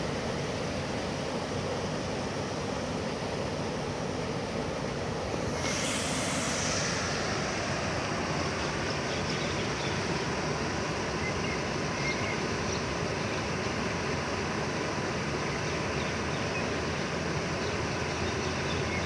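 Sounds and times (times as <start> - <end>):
water rushing over weir: 0.0 - 19.0.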